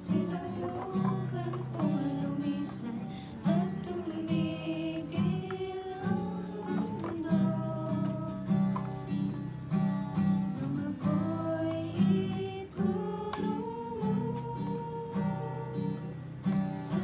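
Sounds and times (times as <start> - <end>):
voices singing: 0.0 - 9.5, 10.2 - 17.0
acoustic guitar strumming: 0.0 - 17.0.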